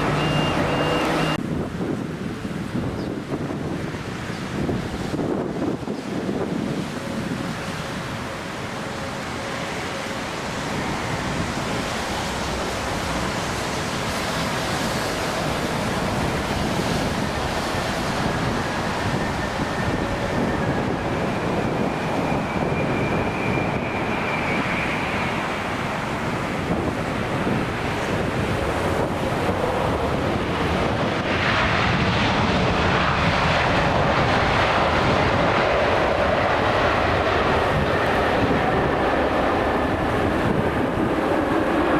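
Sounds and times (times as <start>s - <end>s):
jet engine roar with whine: 0.0s - 41.9s
wind buffeting microphone: 0.0s - 41.9s.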